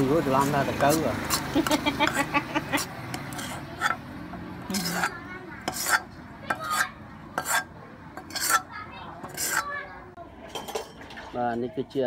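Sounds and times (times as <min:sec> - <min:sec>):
utensil scraping a wok: 0:00.0 - 0:10.0.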